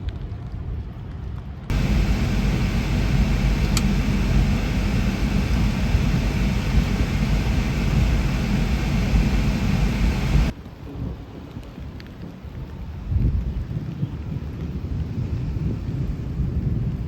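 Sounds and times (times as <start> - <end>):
wind and rain battering a car: 0.0 - 17.0.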